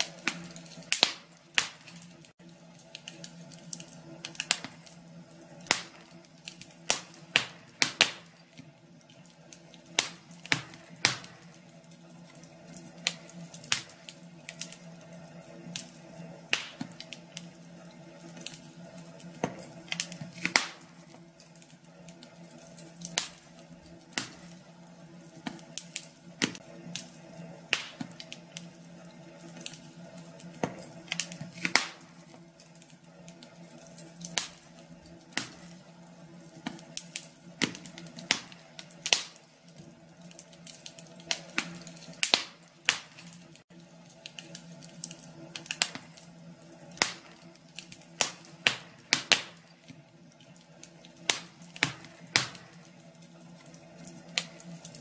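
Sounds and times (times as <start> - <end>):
wood fire pops and snaps: 0.0 - 55.0.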